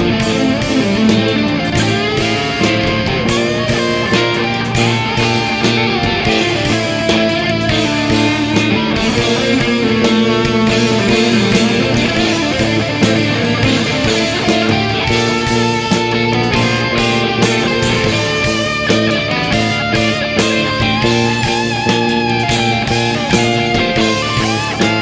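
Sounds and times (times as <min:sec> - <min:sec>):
instrumental progressive rock guitar: 0:00.0 - 0:25.0.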